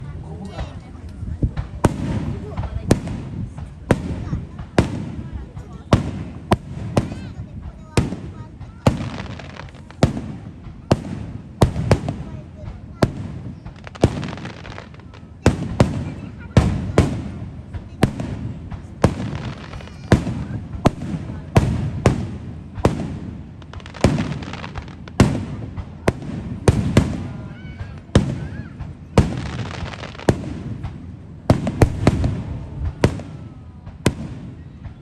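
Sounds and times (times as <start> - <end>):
steady crackling: 0.0 - 35.0.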